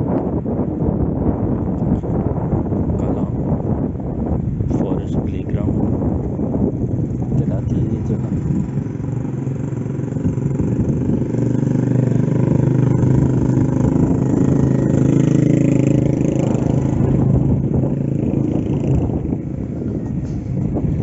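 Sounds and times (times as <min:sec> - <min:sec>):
vehicle engine humming: 0:01.2 - 0:21.0.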